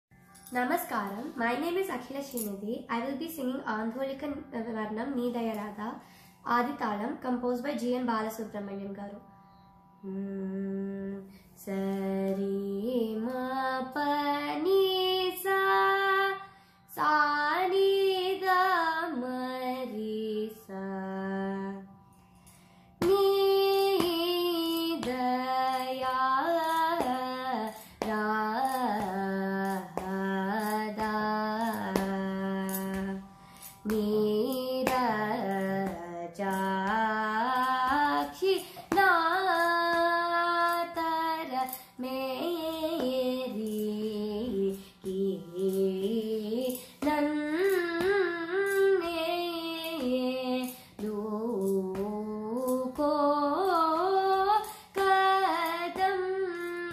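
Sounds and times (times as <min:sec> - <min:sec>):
girl singing: 0:00.5 - 0:09.2, 0:10.0 - 0:22.0, 0:23.0 - 0:56.9.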